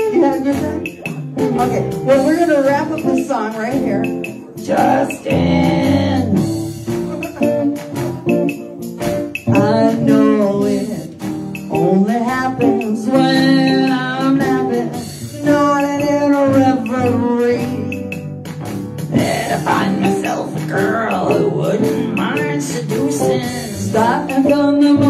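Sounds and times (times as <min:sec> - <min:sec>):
person singing: 0:00.0 - 0:08.4, 0:09.4 - 0:18.2, 0:19.1 - 0:25.0
guitar: 0:00.0 - 0:25.0
percussion beat: 0:00.0 - 0:25.0.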